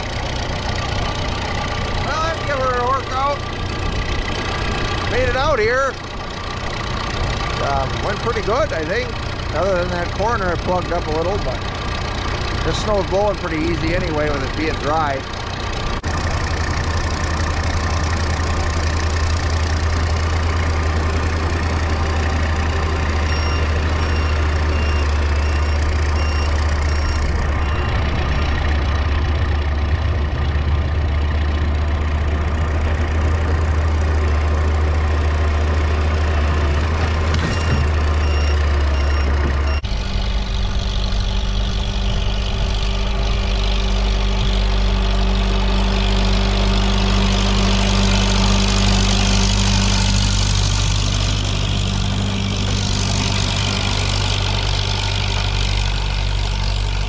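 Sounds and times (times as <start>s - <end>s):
skid steer engine running: 0.0s - 57.0s
tractor engine hum: 0.0s - 57.0s.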